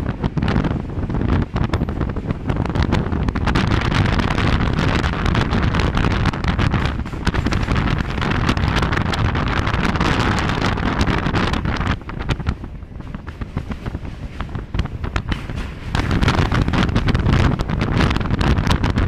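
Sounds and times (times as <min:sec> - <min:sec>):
train running over bridge: 0:00.0 - 0:19.0
wind buffeting microphone: 0:00.0 - 0:19.0
rapid clattering and knocking: 0:01.6 - 0:19.0.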